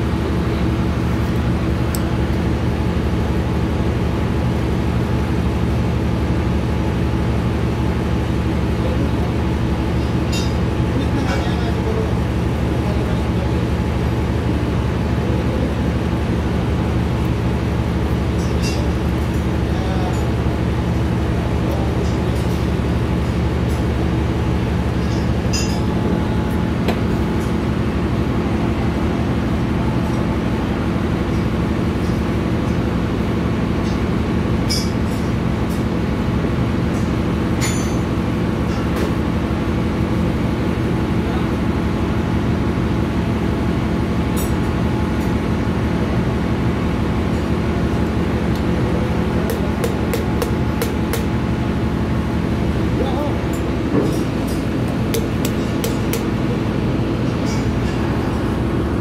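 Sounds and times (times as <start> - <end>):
engine-room machinery drone: 0.0 - 59.0.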